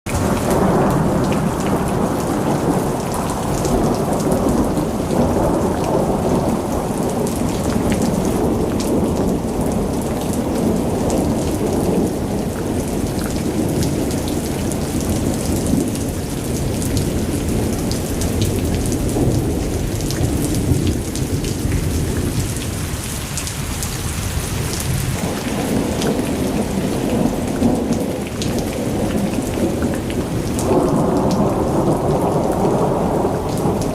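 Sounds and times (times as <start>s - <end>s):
rolling thunder: 0.1s - 33.9s
steady rain: 0.1s - 33.9s.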